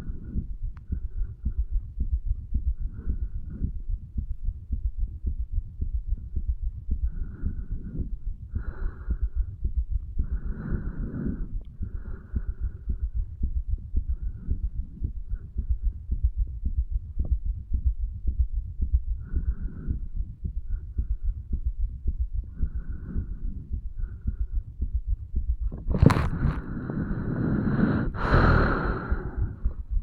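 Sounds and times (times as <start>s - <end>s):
heartbeat thumping: 0.0s - 30.0s.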